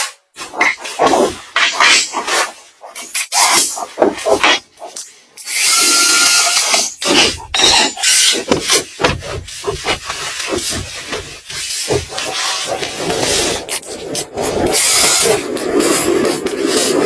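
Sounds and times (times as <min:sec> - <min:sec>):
hand tool rasping against wood: 0:00.4 - 0:17.0.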